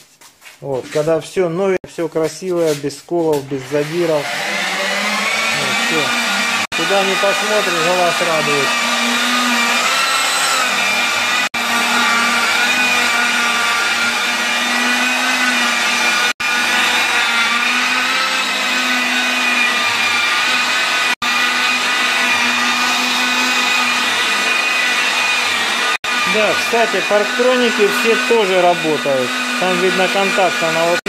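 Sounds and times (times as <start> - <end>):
rotary polisher motor whine: 3.6 - 31.0.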